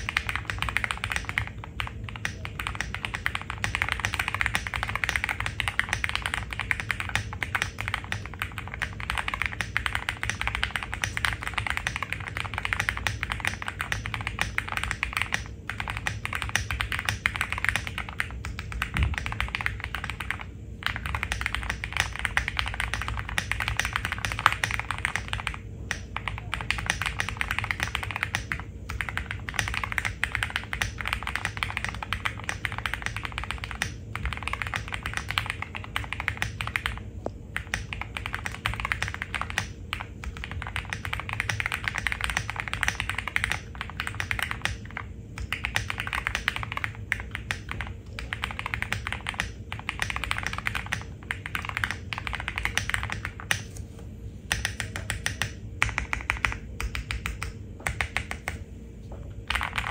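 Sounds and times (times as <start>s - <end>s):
mechanical keyboard typing clacks: 0.0s - 53.7s, 54.5s - 58.7s, 59.4s - 59.9s.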